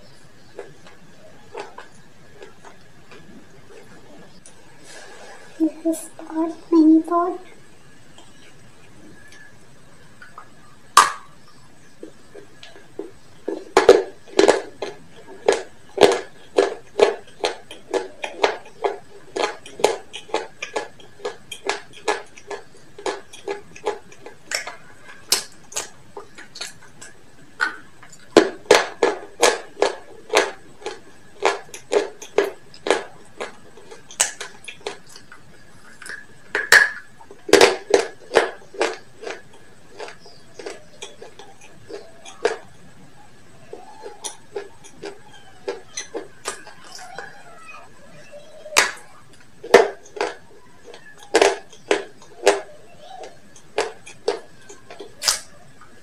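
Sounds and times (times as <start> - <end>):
crunching fried chicken: 0.0 - 5.5, 8.1 - 56.0.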